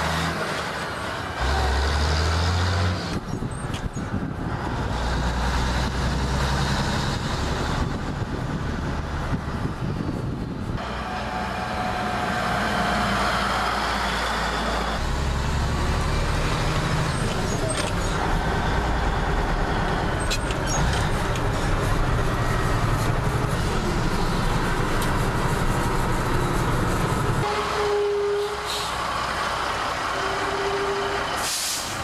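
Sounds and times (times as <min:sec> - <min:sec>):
diesel truck engine with gear changes: 0:00.0 - 0:32.0.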